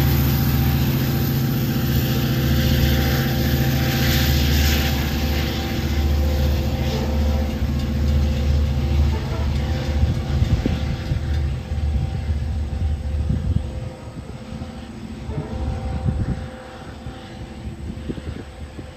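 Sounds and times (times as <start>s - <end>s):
diesel locomotive engine droning: 0.0s - 18.9s.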